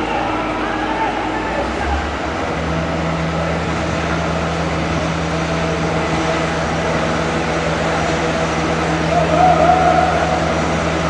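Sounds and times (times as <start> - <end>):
diesel engine humming: 0.0 - 11.0
outdoor site noise: 0.0 - 11.0.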